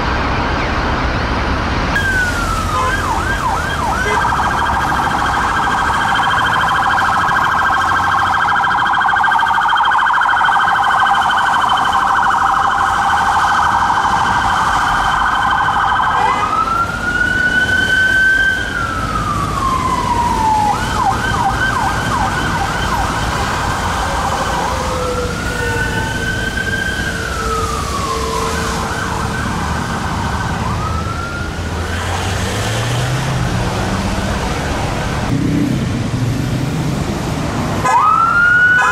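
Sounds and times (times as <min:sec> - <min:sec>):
road traffic: 0:00.0 - 0:38.9
police siren yelp and wail: 0:01.9 - 0:34.8, 0:37.7 - 0:38.9.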